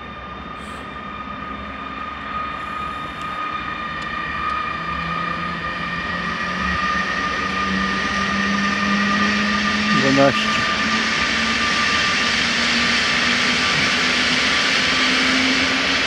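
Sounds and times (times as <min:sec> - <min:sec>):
electric train whine: 0:00.0 - 0:16.0
train running noise: 0:00.0 - 0:16.0.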